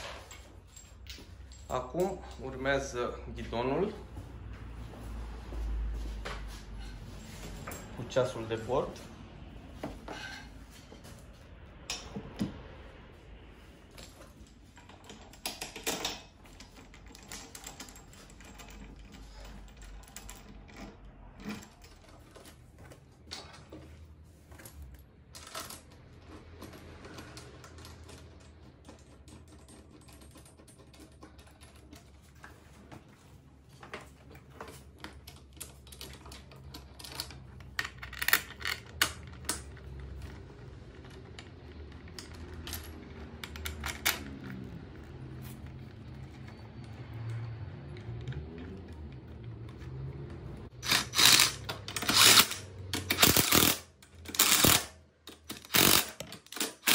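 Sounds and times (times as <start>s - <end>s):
metal parts clicking and rattling: 0.0s - 3.0s, 13.8s - 56.9s.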